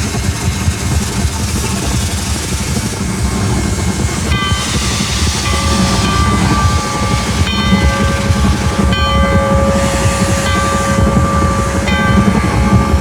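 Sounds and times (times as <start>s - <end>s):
steam locomotive rumble and hiss: 0.0s - 13.0s.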